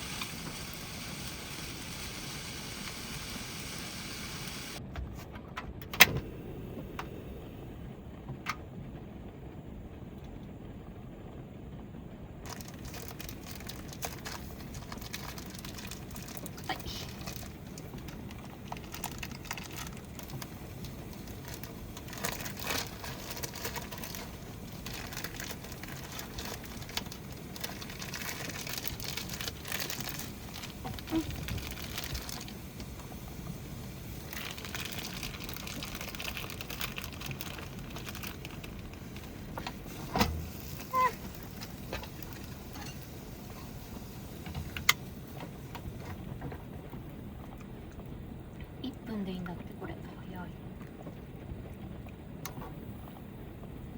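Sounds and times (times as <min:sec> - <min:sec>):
rain pattering on a van roof: 0:00.0 - 0:53.9.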